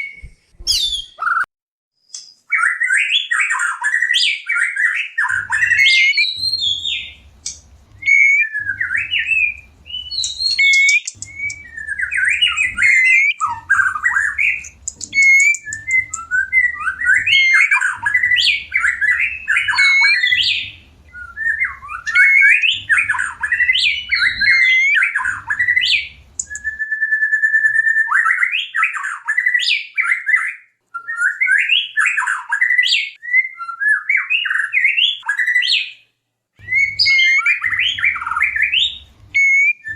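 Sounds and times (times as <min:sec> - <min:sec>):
bird singing whistles and trills: 0:00.0 - 0:36.0, 0:36.6 - 0:39.9.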